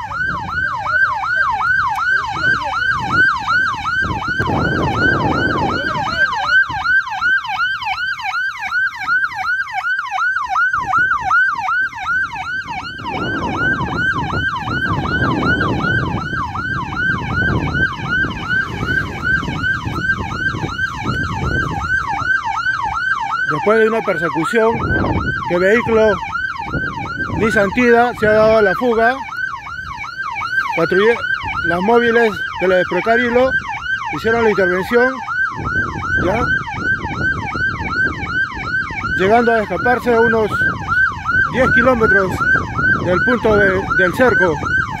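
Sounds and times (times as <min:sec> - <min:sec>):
police siren yelping: 0:00.0 - 0:45.0.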